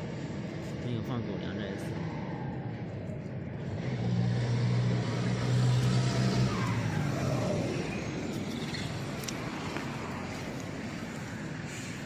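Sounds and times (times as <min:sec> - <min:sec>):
vehicle passing by: 0:00.4 - 0:12.0.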